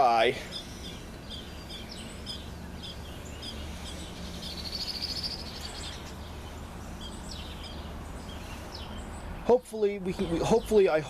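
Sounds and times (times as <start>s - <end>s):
bird trill: 0.0s - 9.3s
birds chirping: 0.0s - 11.0s.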